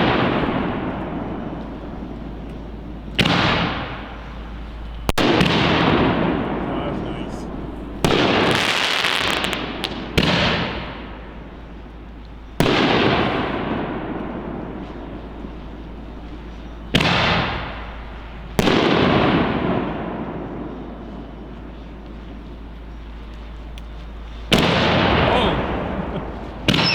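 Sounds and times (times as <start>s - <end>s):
firework crackling: 0.0s - 26.9s
firework shells booming: 0.0s - 26.9s.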